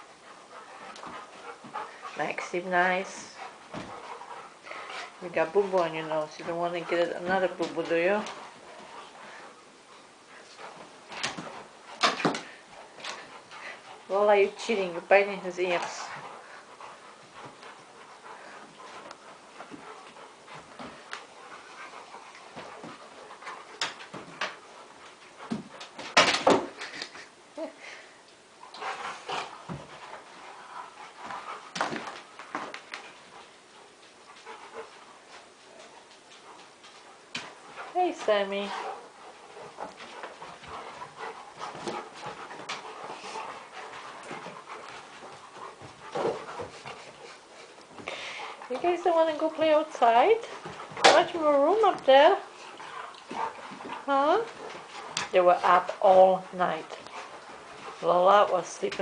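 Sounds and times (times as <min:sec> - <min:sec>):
puppies play-fighting: 0:00.0 - 0:59.0.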